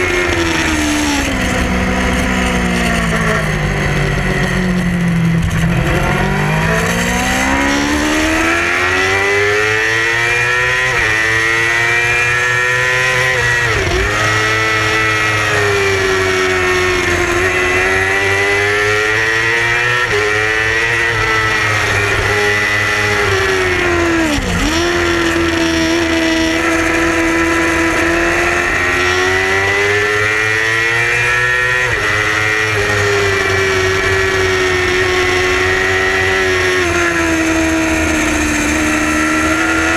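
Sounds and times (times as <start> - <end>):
race motorcycle engine revving: 0.0 - 39.9.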